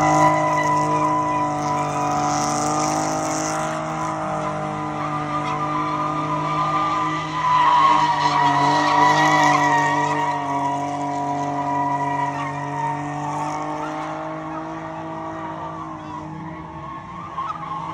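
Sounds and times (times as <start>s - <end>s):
engine at high revs: 0.0s - 17.9s
tyres spinning and squealing: 0.0s - 17.9s.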